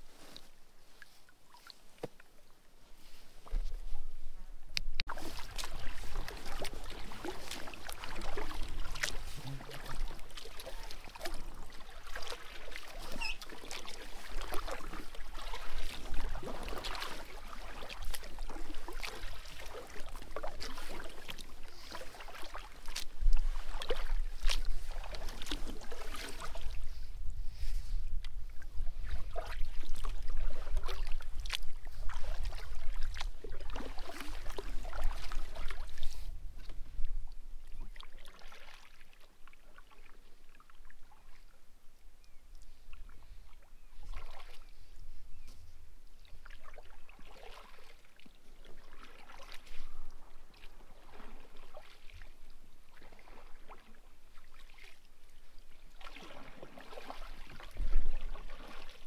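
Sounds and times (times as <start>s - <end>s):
water splashing around kayak: 0.0s - 41.6s, 42.2s - 59.0s.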